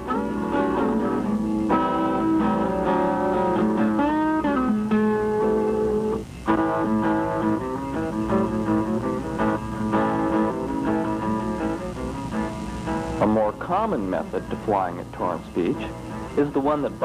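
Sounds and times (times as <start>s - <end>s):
guitar playing: 0.0s - 17.0s.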